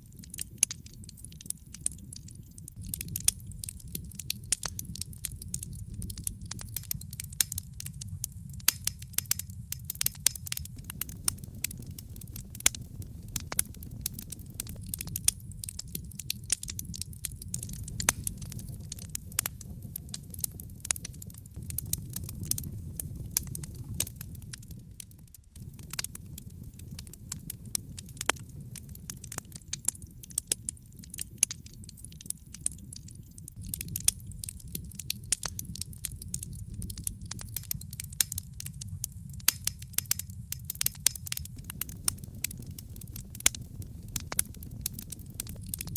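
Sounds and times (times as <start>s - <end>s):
wood fire crackling: 0.0s - 45.9s
low rumble: 2.8s - 29.6s, 33.6s - 45.9s.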